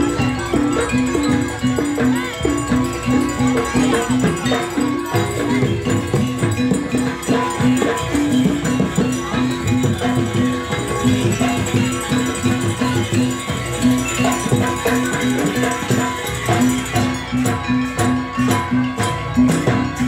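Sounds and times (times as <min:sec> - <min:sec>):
ensemble playing pitched percussion: 0:00.0 - 0:20.0.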